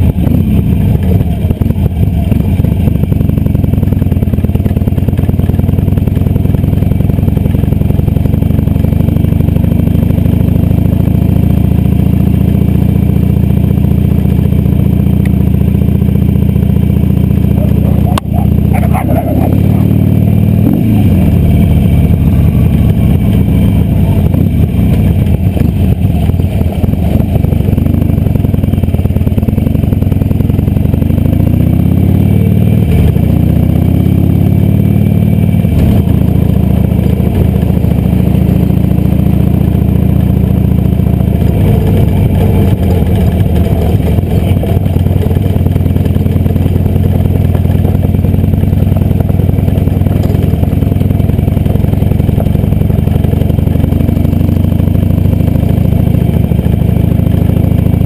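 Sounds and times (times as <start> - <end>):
motorcycle engine running loud: 0.0 - 58.0.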